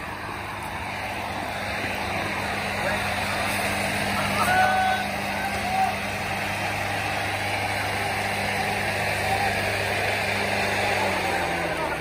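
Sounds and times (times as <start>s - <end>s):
machine drone: 0.0s - 12.0s.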